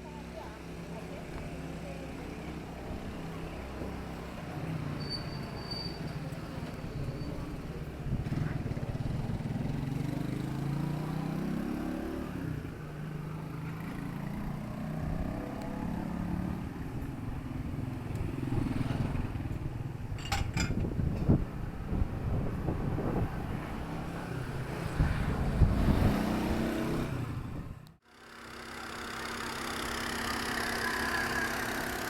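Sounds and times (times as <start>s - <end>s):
vehicle engines passing: 0.2s - 32.0s.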